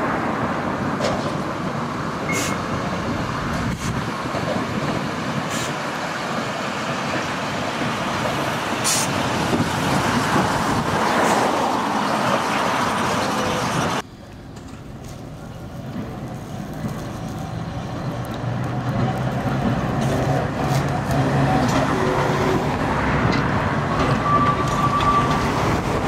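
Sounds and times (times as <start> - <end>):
electric tram rumbling along track: 0.0 - 26.0.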